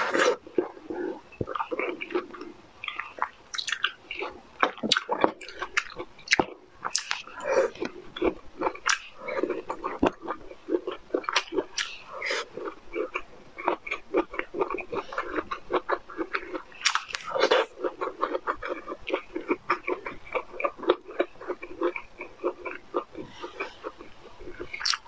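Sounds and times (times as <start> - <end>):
person chewing broccoli: 0.0 - 25.0.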